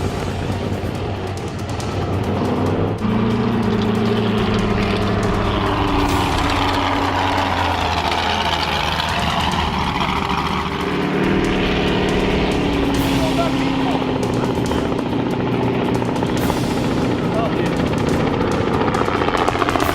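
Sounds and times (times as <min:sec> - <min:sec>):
race truck engine running: 0:00.0 - 0:19.9.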